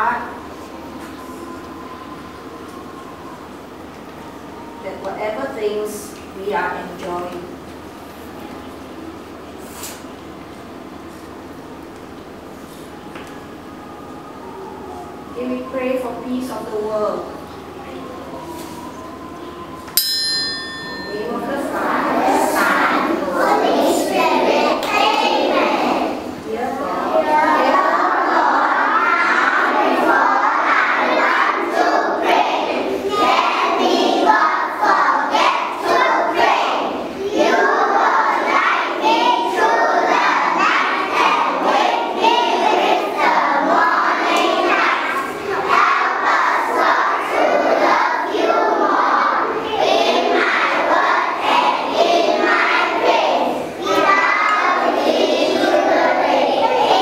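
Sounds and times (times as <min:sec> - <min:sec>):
children praying aloud: 0:00.0 - 0:57.0.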